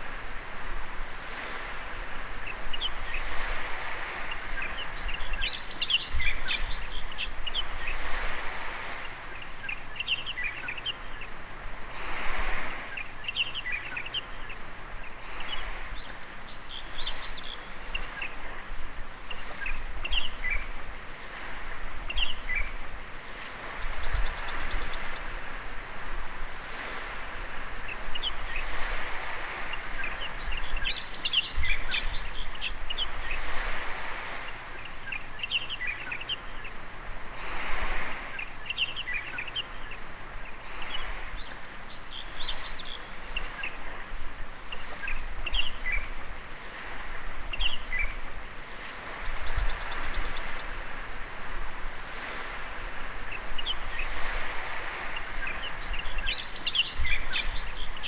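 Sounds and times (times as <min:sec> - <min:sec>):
small waves washing onto beach: 0:00.0 - 0:58.0
birds chirping and twittering: 0:01.4 - 0:58.0.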